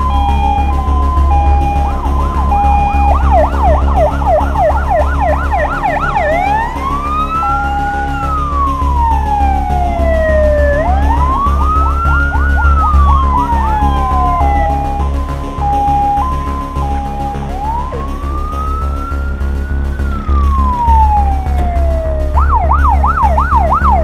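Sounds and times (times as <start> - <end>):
low rumble: 0.0 - 24.0
two-tone siren: 0.0 - 24.0
wail siren: 0.0 - 24.0
yelp siren: 0.0 - 24.0.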